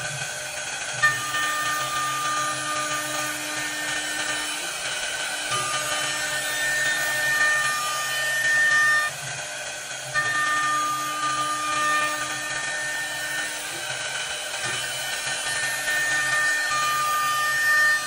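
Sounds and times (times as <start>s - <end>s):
router whining cutting wood: 0.0s - 18.0s
steady machine noise: 0.0s - 18.0s.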